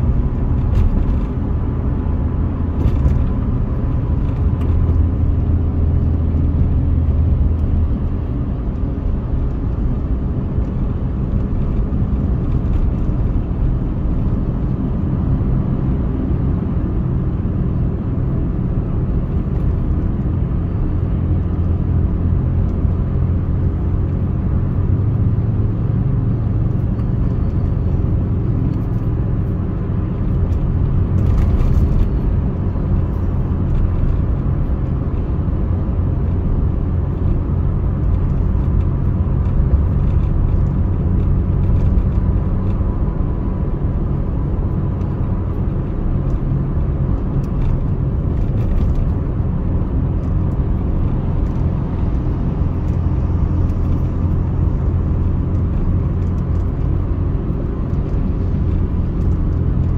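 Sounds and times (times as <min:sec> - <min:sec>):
car road noise rumble: 0:00.0 - 0:59.9.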